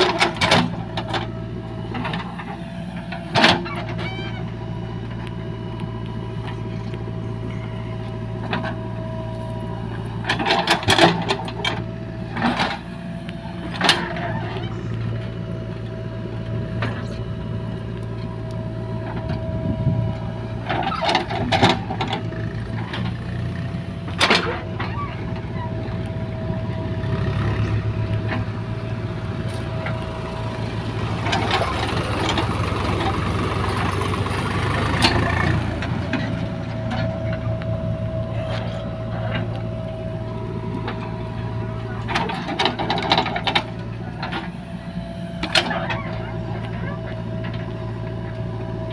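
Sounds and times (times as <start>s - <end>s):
backhoe diesel engine: 0.0s - 48.9s
engine whine: 0.0s - 48.9s
tractor diesel engine: 0.0s - 48.9s.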